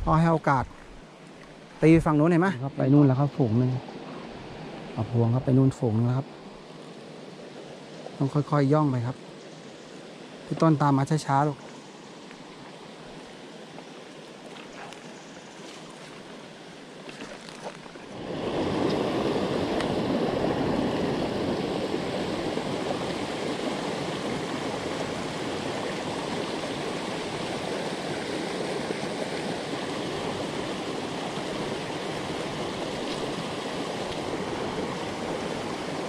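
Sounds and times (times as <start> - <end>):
stream running over rocks: 0.0 - 36.0.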